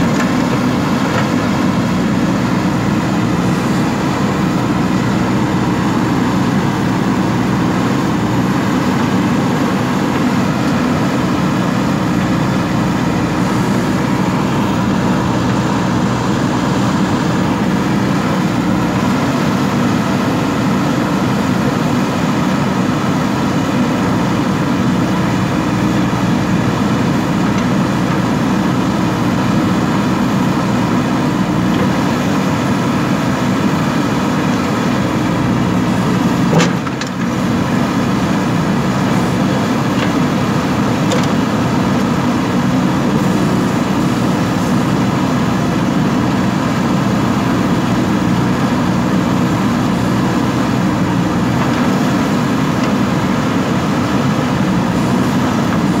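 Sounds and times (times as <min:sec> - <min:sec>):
backhoe digging soil: 0:00.0 - 0:56.0
diesel engine running under load: 0:00.0 - 0:56.0.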